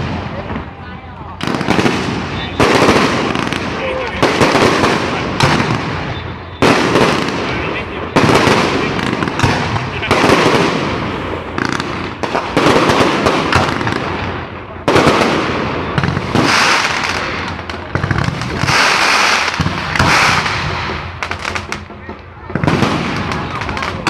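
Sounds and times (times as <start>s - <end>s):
fireworks bursting: 0.0s - 24.0s
fireworks crackling: 0.0s - 24.0s.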